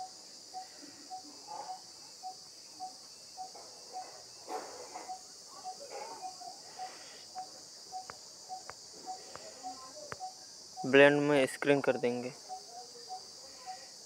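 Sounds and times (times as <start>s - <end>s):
insects chirring: 0.0s - 14.0s
short repeating insect tone: 0.0s - 14.0s.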